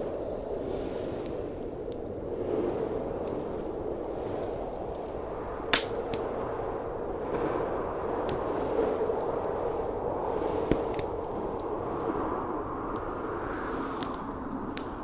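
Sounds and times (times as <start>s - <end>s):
snowstorm wind: 0.0s - 15.0s
wood fire crackling: 0.0s - 15.0s.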